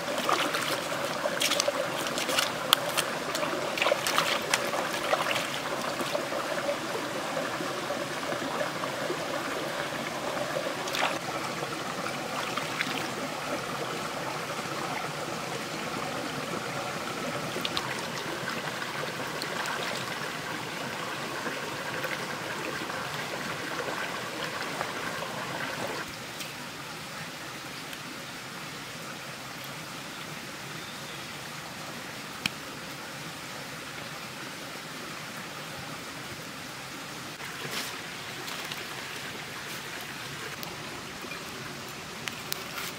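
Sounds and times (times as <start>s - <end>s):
stream running over rocks: 0.0s - 42.9s.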